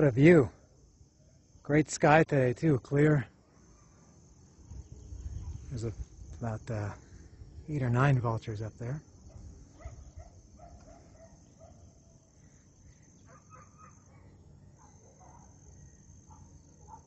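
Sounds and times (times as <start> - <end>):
insects droning: 0.0 - 17.0
distant bird calls: 3.3 - 17.0.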